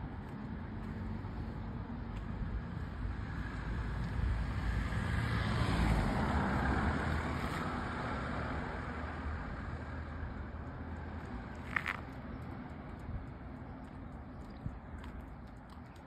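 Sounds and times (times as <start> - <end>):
wind rumble on microphone: 0.0 - 8.0, 9.6 - 16.0
car passing: 0.0 - 14.0.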